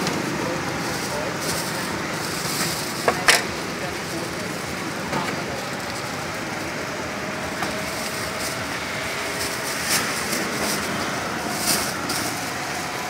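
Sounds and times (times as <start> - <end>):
wok hissing on a gas burner: 0.0 - 13.0.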